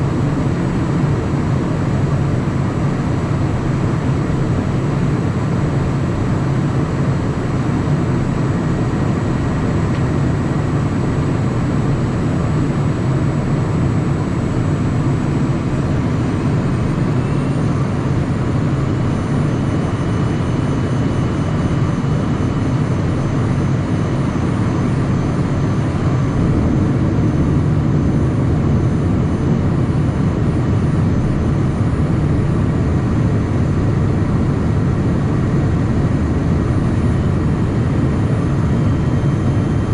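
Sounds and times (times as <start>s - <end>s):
jet engine cabin hum: 0.0s - 39.9s.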